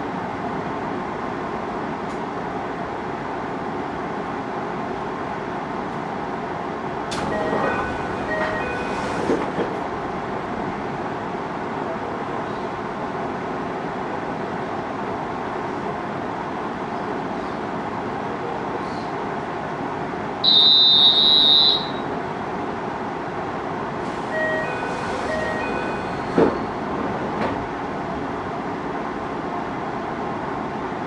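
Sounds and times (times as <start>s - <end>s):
train interior hum: 0.0s - 31.0s.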